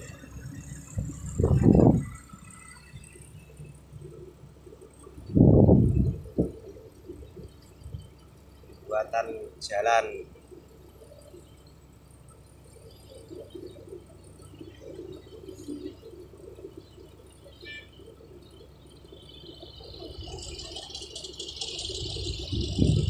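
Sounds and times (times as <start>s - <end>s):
distant excavator diesel drone: 0.0s - 23.0s.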